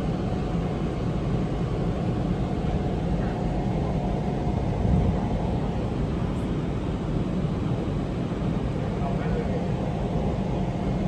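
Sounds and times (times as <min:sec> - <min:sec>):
jet engine and airflow roar: 0:00.0 - 0:11.0.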